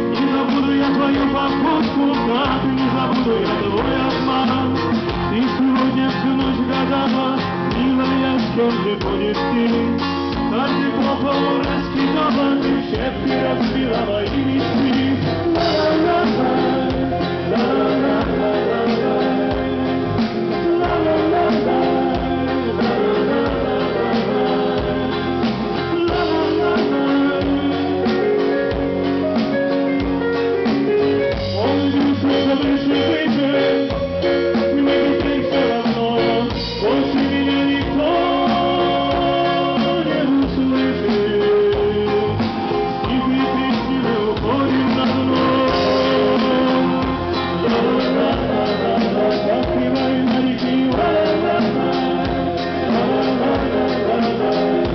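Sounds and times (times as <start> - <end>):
drums: 0.0 - 54.9
electric guitar: 0.0 - 54.9
person singing: 0.0 - 54.9.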